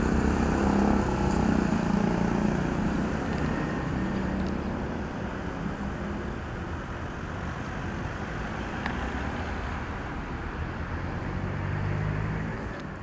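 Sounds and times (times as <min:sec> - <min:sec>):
vehicle passing close: 0:00.0 - 0:06.2, 0:07.7 - 0:13.0
passing vehicles: 0:00.0 - 0:13.0.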